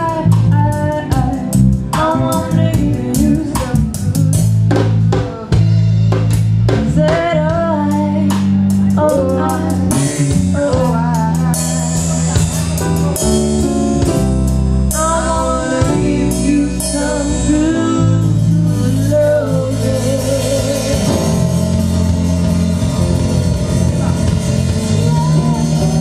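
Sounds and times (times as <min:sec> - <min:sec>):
live reggae band: 0:00.0 - 0:26.0.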